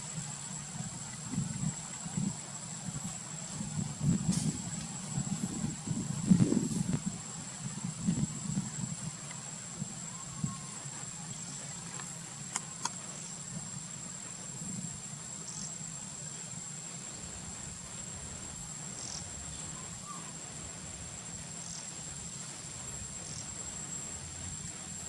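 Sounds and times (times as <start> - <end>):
insects droning: 0.0 - 25.0
low steady hum: 0.0 - 25.0.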